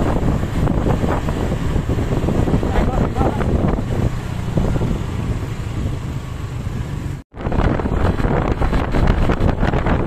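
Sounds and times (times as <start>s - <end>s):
road traffic rumble: 0.0s - 10.0s
wind buffeting microphone: 0.0s - 10.0s.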